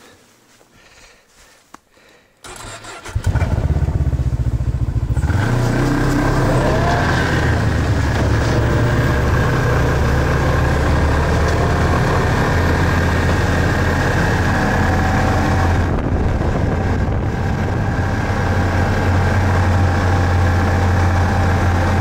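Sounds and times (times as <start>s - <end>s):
snowmobile engine idling and revving: 2.6s - 22.0s.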